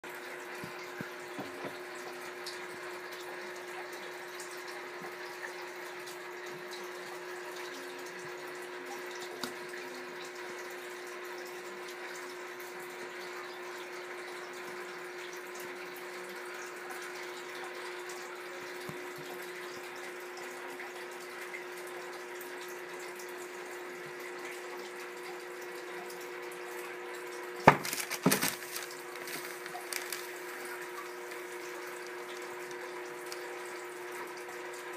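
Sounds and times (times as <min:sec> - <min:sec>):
steady hum and hiss: 0:00.1 - 0:34.9.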